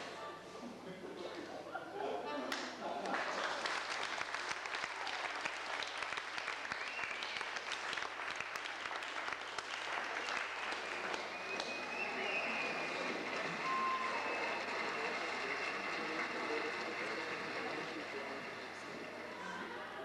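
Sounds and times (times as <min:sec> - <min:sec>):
crowd applauding: 0:02.5 - 0:20.0.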